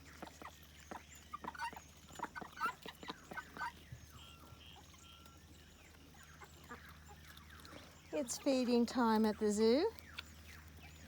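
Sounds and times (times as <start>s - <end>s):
poultry clucking and chirping: 0.0s - 11.0s.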